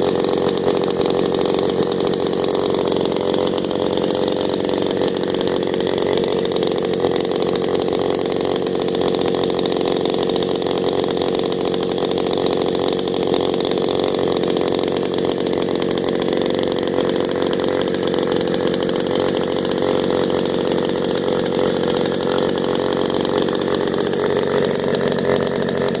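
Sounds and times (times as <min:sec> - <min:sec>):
chainsaw running steadily: 0:00.0 - 0:26.0.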